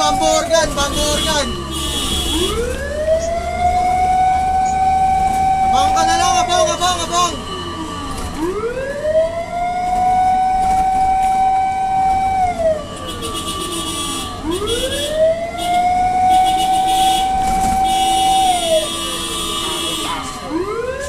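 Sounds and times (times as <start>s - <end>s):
fire truck siren wailing: 0.0s - 21.0s.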